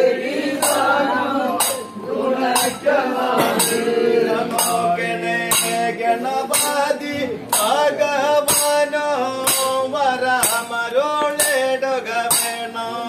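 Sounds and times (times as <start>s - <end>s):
men singing: 0.0s - 13.0s.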